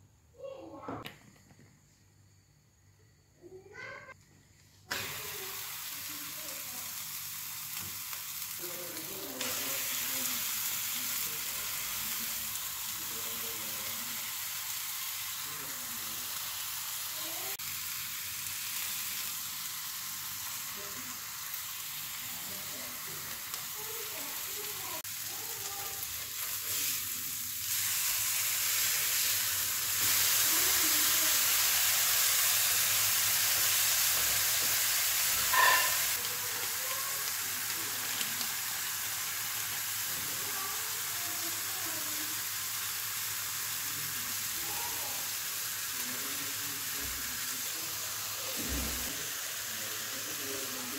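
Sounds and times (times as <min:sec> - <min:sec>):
burger patties sizzling on a griddle: 0:04.9 - 0:50.9.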